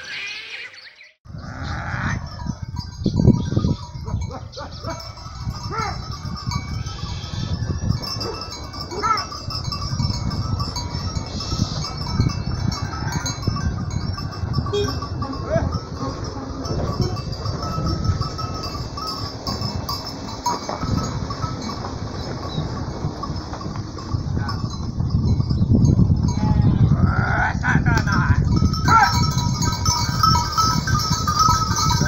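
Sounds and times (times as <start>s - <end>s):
wind rumble on microphone: 1.3s - 32.0s
sheep and goats walking: 1.8s - 27.0s, 28.1s - 32.0s
small livestock bells clinking: 1.8s - 27.2s, 28.0s - 32.0s.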